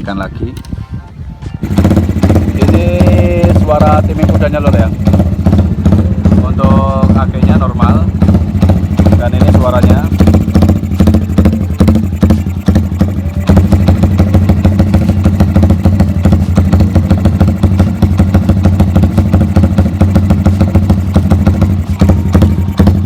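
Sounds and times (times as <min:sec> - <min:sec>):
motorcycle engine idling unevenly: 0:00.0 - 0:23.0.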